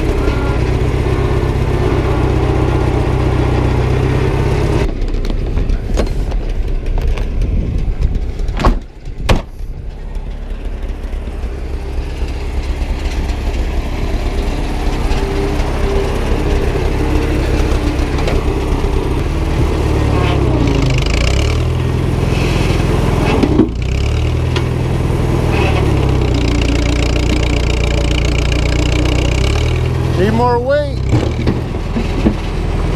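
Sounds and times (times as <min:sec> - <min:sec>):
tractor engine under load: 0:00.0 - 0:32.9.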